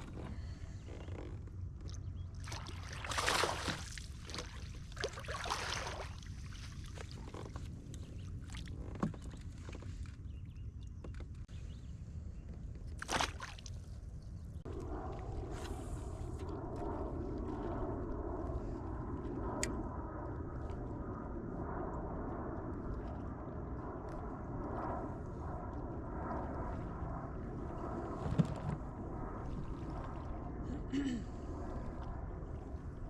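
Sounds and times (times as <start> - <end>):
kayak hum with water noise: 0.0 - 33.0
wind rumble on microphone: 0.0 - 33.0.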